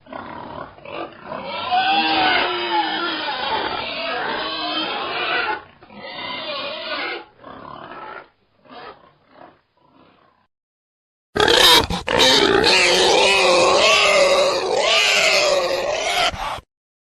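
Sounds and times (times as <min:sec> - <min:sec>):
pig grunting: 0:00.0 - 0:10.5, 0:11.4 - 0:16.7.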